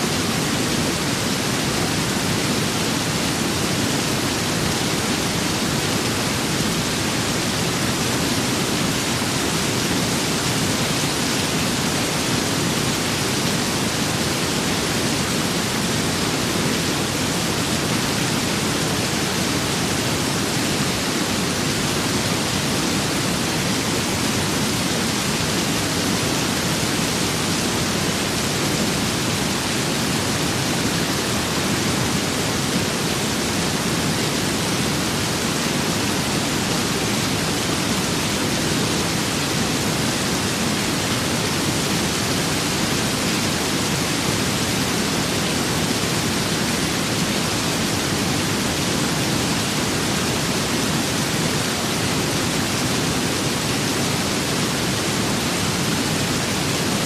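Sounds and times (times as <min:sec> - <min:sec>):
steady rain with wind: 0:00.0 - 0:57.0.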